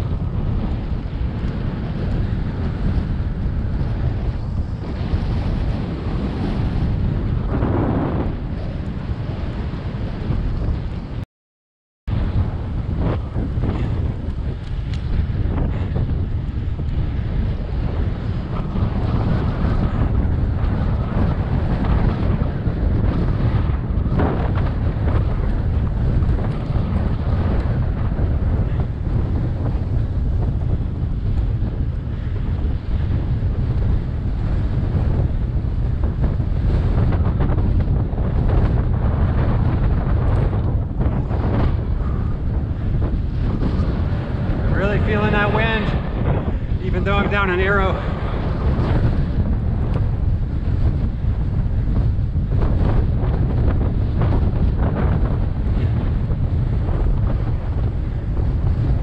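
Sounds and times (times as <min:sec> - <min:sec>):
wind buffeting microphone: 0:00.0 - 0:11.2, 0:12.1 - 0:59.0.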